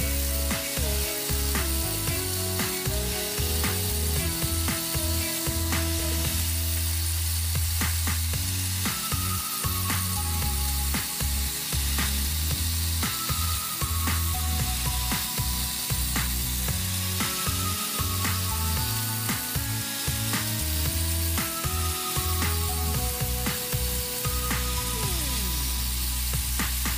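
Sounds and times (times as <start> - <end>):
background music with bass line: 0.0 - 26.9.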